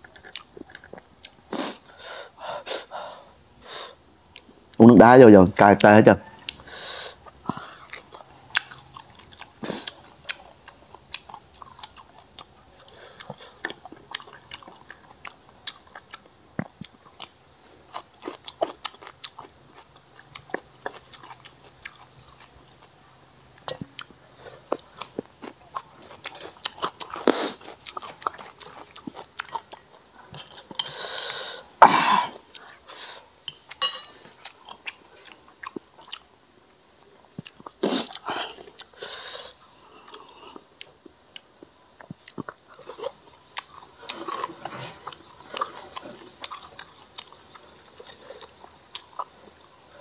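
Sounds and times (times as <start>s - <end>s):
chewing and crunching crispy food: 0.0s - 2.0s, 5.8s - 36.4s, 37.0s - 50.0s.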